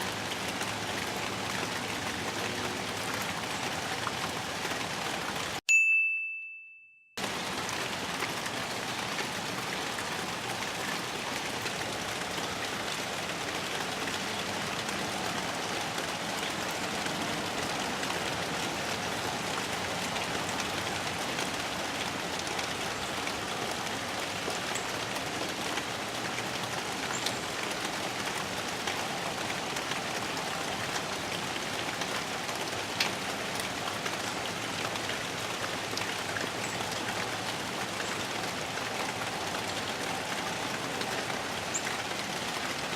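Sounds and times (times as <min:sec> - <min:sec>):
steady rain falling: 0:00.0 - 0:05.6, 0:07.2 - 0:42.9.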